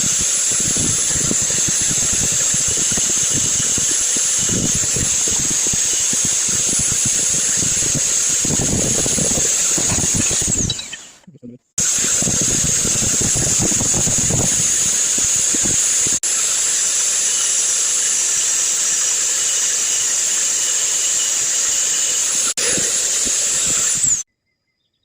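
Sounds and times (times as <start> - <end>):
crackly metal cutting noise: 0.0 - 11.2, 11.8 - 24.2
drill whining: 0.0 - 11.2, 11.8 - 24.3.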